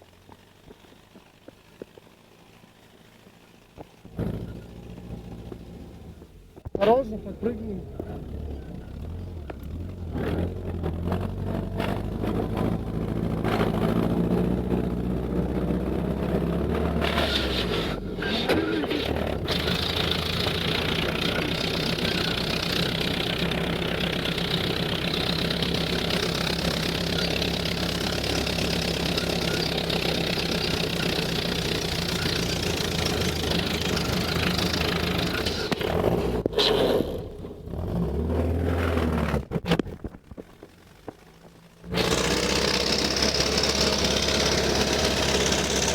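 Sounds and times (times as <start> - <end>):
jeep engine running: 0.0 - 45.9.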